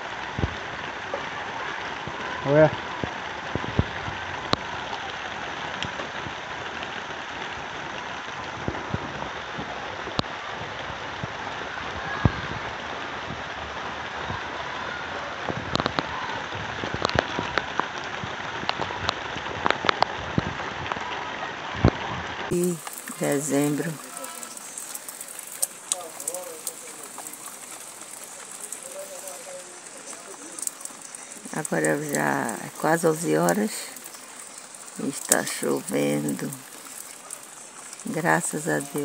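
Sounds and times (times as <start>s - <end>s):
rain falling on dirt: 0.0s - 39.0s
raindrops tapping close by: 0.0s - 39.0s.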